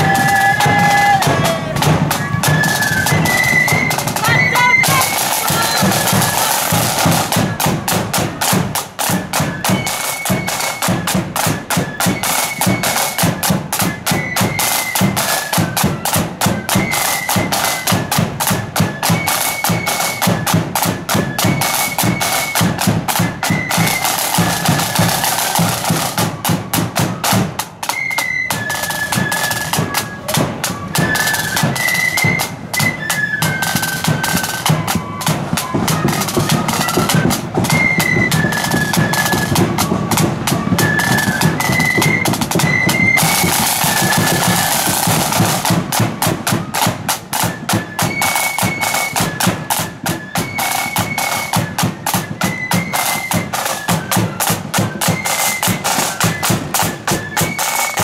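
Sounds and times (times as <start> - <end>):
flute melody: 0.0 - 58.0
side drum beats and rolls: 0.0 - 58.0.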